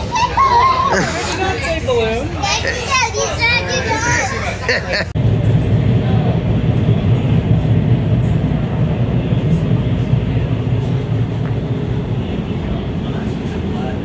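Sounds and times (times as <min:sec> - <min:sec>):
train rumbling along rails: 0:00.0 - 0:14.0.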